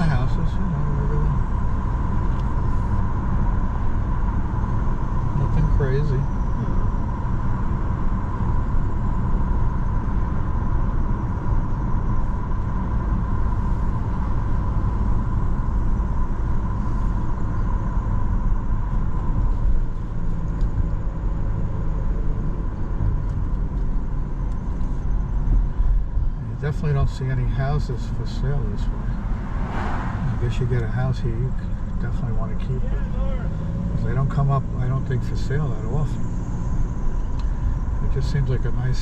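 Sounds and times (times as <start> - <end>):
car road noise rumble: 0.0 - 39.0.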